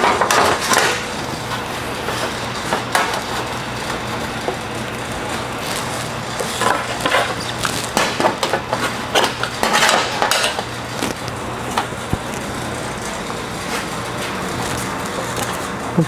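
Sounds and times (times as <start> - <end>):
low shop hum: 0.0 - 16.0.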